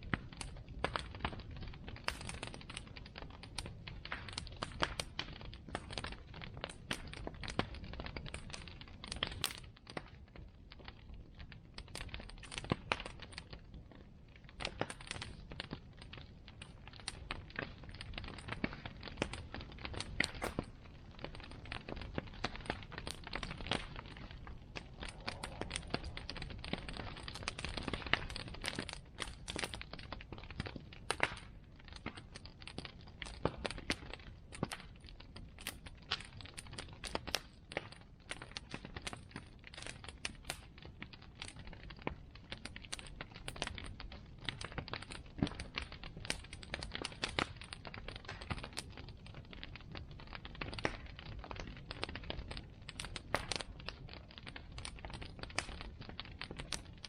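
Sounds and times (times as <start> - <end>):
bonfire wood crackling and popping: 0.0 - 57.0
low fire rumble: 0.0 - 57.0.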